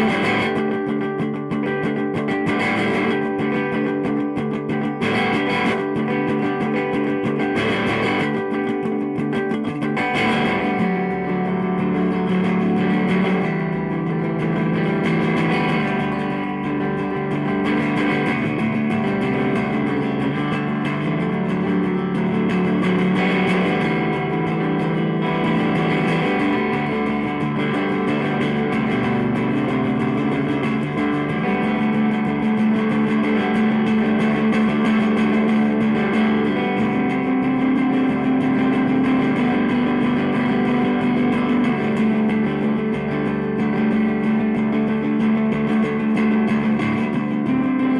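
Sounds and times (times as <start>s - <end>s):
electric guitar through tube amp: 0.0s - 47.9s.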